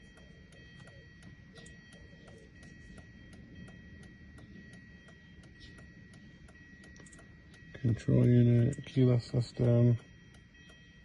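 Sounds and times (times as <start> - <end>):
faint high-pitched whine: 0.0 - 11.0
turn signal flasher ticking: 0.0 - 11.0.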